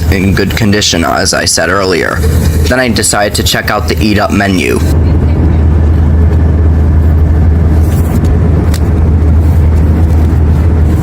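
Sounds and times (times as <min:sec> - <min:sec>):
aircraft cabin engine drone: 0:00.0 - 0:11.0.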